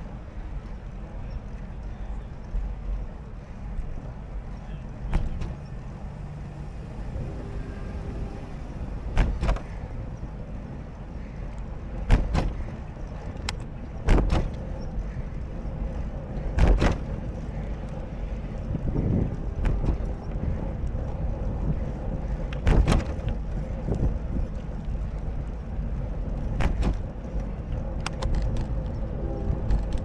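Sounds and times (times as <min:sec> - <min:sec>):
low road rumble: 0:00.0 - 0:30.0.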